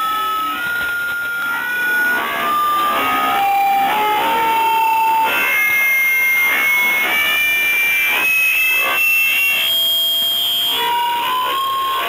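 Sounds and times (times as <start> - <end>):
whistling radio tones: 0.0 - 12.0.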